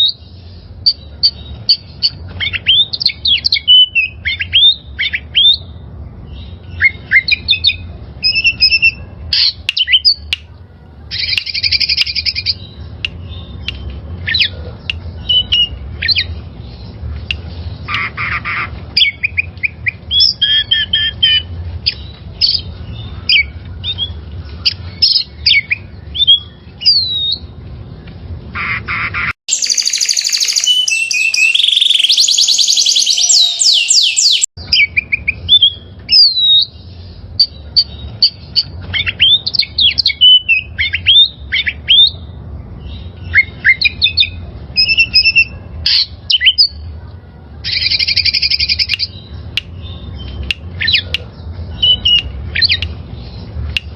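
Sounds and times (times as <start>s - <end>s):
birds chirping and squawking: 0.0s - 53.9s.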